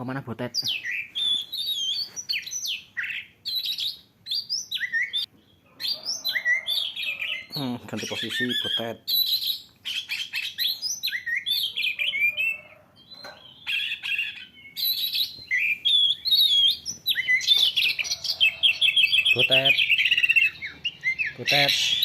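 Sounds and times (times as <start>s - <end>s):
recorded birdsong through phone speaker: 0.0s - 22.0s.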